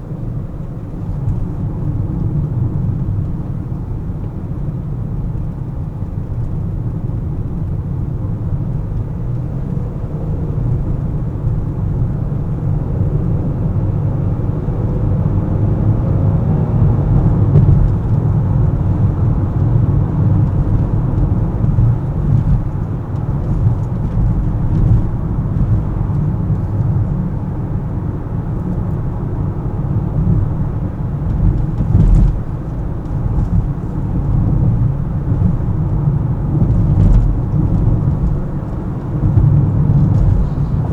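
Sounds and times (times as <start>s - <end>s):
tyre and engine rumble: 0.0s - 40.9s.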